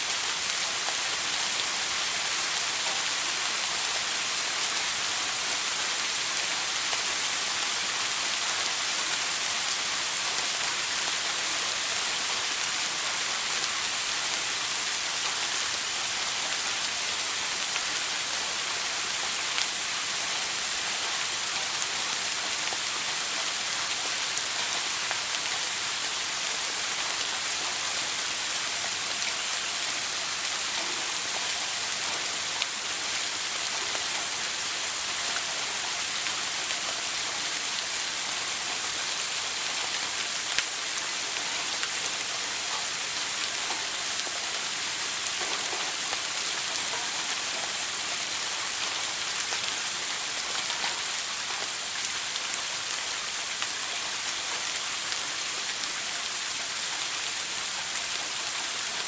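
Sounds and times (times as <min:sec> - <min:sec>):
shower spray hissing: 0:00.0 - 0:59.0.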